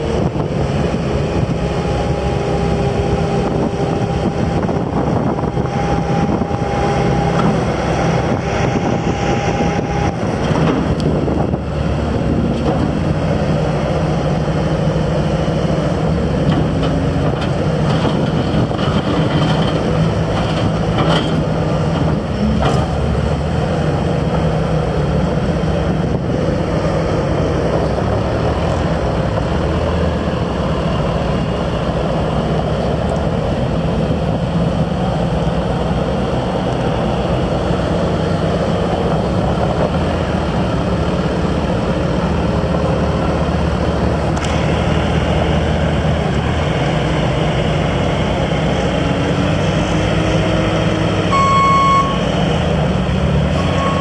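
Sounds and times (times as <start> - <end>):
loader diesel engine running: 0.0 - 54.0.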